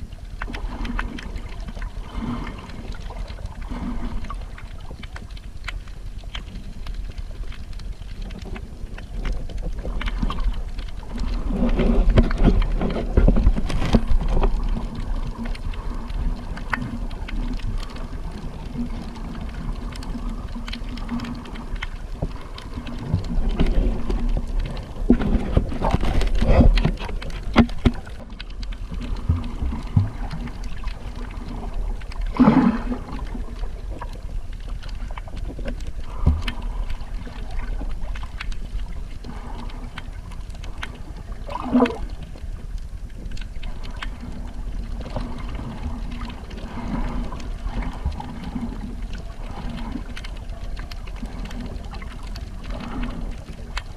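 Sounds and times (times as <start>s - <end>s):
water surging: 0.0s - 53.9s.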